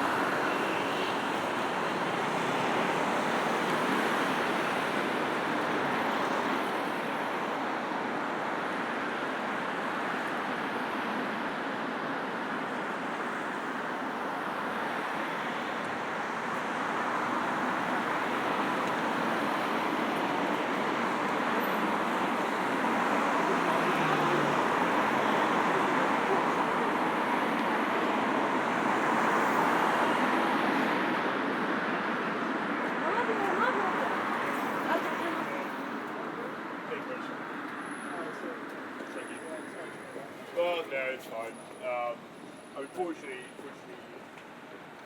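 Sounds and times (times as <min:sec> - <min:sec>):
road traffic noise: 0:00.0 - 0:45.0.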